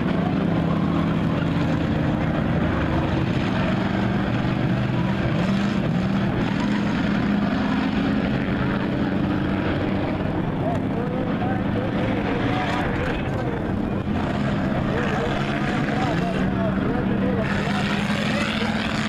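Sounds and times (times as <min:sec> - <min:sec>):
engine revving: 0:00.0 - 0:19.0
race car engines droning: 0:00.0 - 0:19.0.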